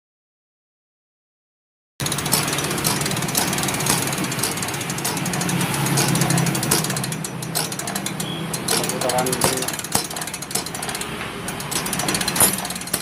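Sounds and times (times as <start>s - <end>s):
diesel engine running: 2.0s - 13.0s
mechanical clicks: 2.0s - 13.0s.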